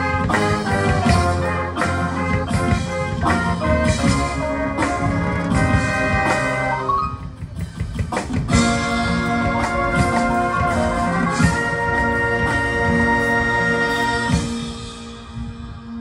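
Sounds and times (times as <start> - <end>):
brass chords: 0.0 - 15.6
drums: 0.0 - 16.0.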